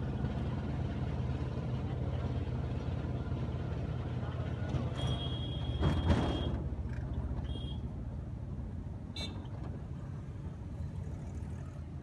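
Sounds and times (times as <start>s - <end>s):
road traffic rumble: 0.0s - 12.0s
vehicle engine: 0.0s - 12.0s.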